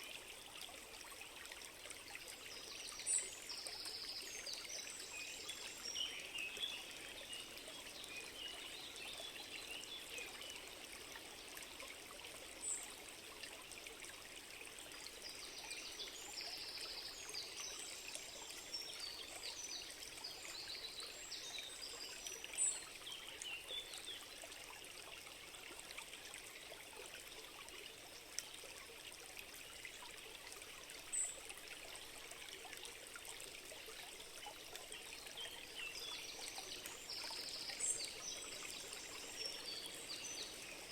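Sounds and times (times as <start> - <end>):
small stream trickling: 0.0 - 40.9.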